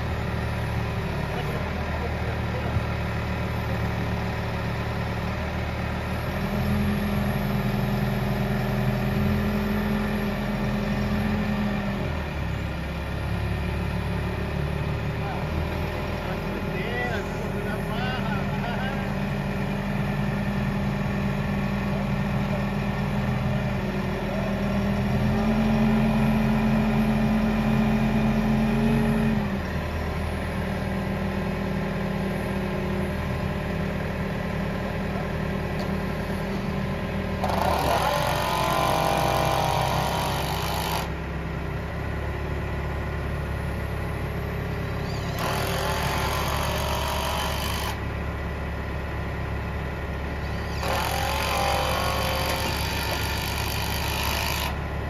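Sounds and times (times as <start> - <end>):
telehandler engine running: 0.0 - 55.0.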